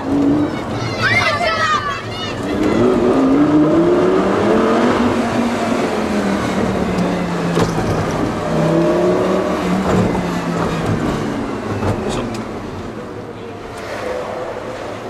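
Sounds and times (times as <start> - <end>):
car engine revving: 2.3 - 15.0.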